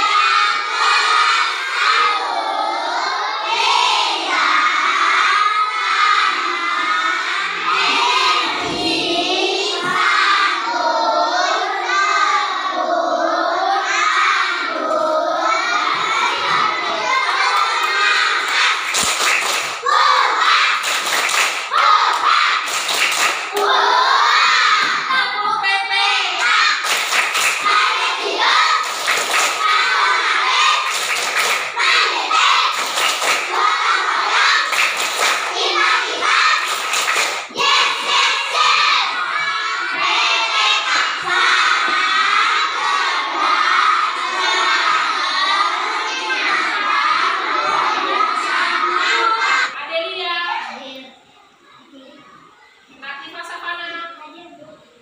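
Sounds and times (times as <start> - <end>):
children chanting: 0.0 - 49.9.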